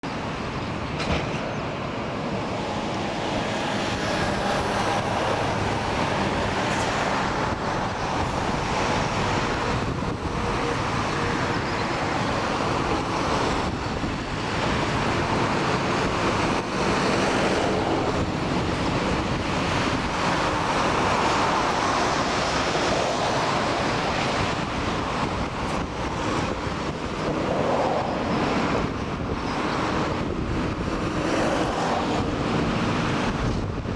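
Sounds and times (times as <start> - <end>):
jet engines rushing: 0.0 - 33.9.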